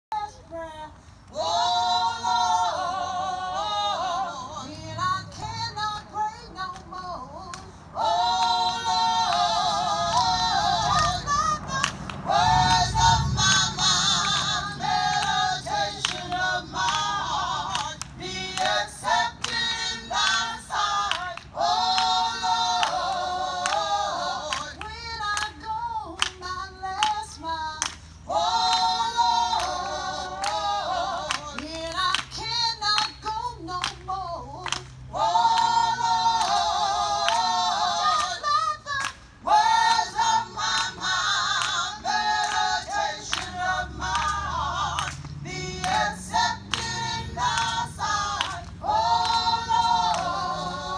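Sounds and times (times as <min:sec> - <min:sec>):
group of singers singing: 0:00.2 - 0:50.9.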